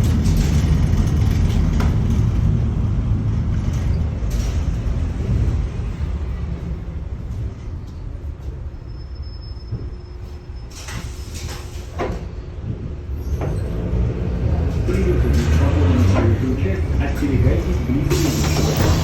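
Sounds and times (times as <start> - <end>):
tram doors clattering and clunking: 0.0 - 19.0
tram running rumble: 0.0 - 19.0.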